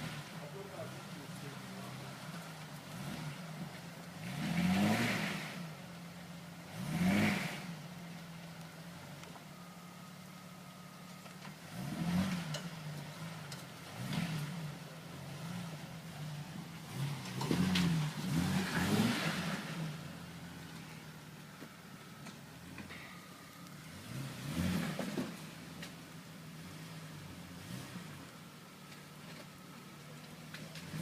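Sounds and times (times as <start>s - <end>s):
vehicle engine idling and revving: 0.0s - 31.0s.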